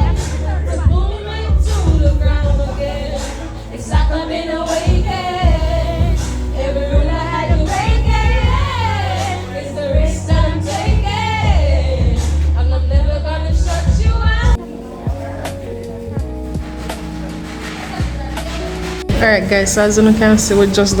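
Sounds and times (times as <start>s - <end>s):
backing track with heavy bass: 0.0s - 21.0s.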